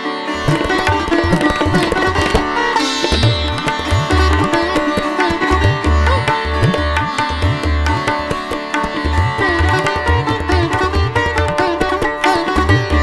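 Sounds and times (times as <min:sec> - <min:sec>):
plucked-string melody: 0:00.0 - 0:13.0.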